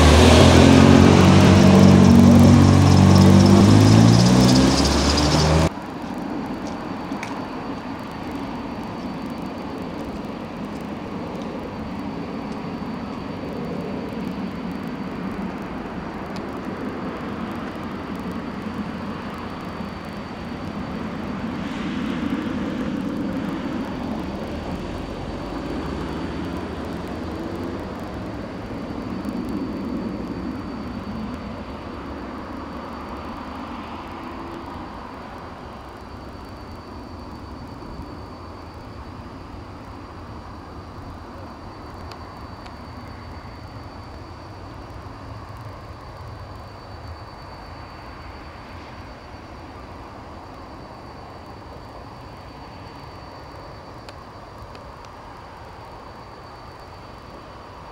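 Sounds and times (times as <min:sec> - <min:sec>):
diesel railcar engine drone: 0:00.0 - 0:57.9.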